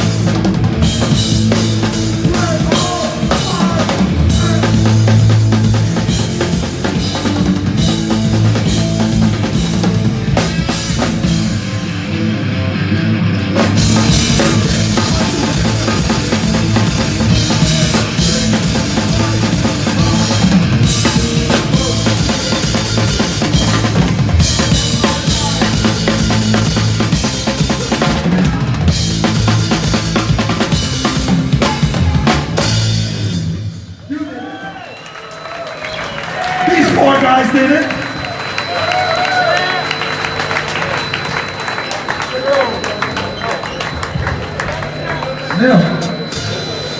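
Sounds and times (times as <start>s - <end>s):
hardcore punk band playing live: 0.0s - 34.0s, 36.1s - 46.9s
loud drum kit: 0.0s - 34.3s, 36.2s - 46.9s.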